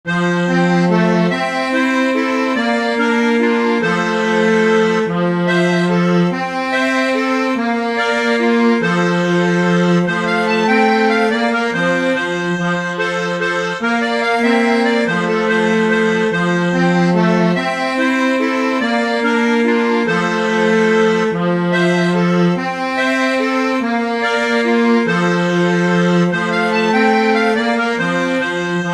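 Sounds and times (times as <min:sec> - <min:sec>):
bandoneon chords: 0:00.0 - 0:28.9.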